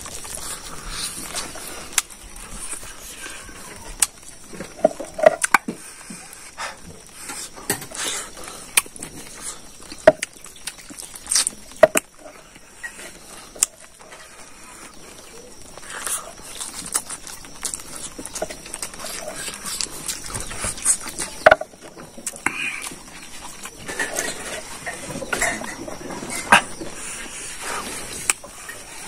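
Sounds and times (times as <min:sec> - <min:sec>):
chewing and lip smacks: 0:00.0 - 0:12.1, 0:12.8 - 0:29.0.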